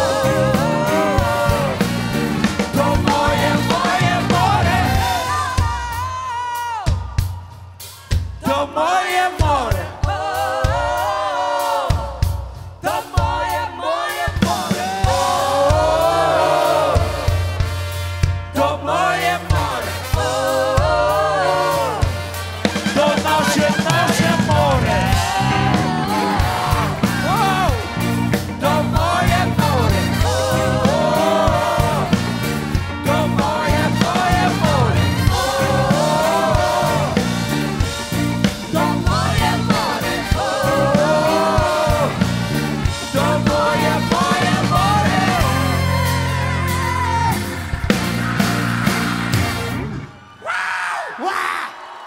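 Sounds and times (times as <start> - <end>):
voices singing held notes: 0.0 - 6.2, 8.4 - 50.2
bass guitar: 0.0 - 7.4, 14.4 - 50.1
drum kit: 0.0 - 50.1.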